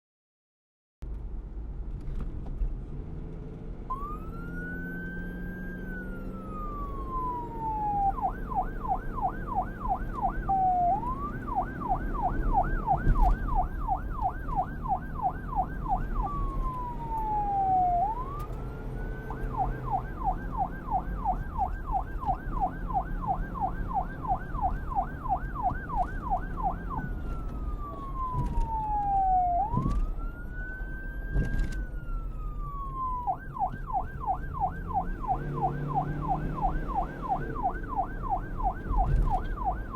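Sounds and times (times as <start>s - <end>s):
low vehicle rumble: 1.0s - 39.9s
police siren wailing and yelping: 3.9s - 39.9s.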